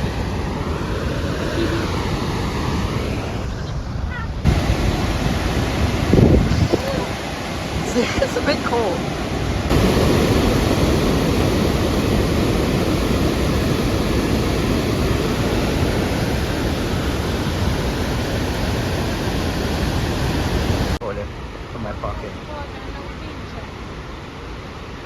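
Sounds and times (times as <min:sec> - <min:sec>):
waterfall rushing: 0:00.0 - 0:23.4.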